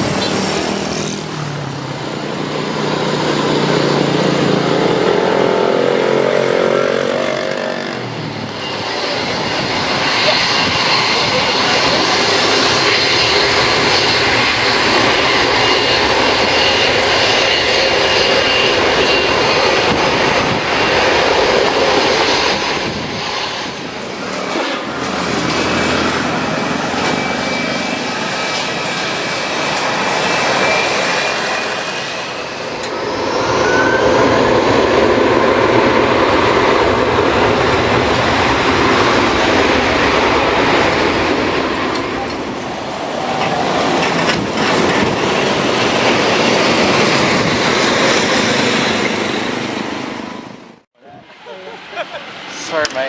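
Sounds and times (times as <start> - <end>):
high turbine whine: 0.0 - 53.0
jet engines rushing: 0.0 - 53.0.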